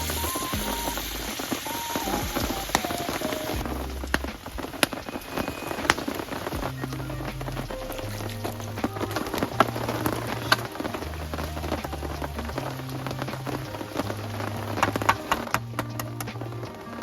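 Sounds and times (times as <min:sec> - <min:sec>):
soft bass background music: 0:00.0 - 0:02.9, 0:03.5 - 0:05.1, 0:05.8 - 0:17.0
rain pattering: 0:00.0 - 0:17.0.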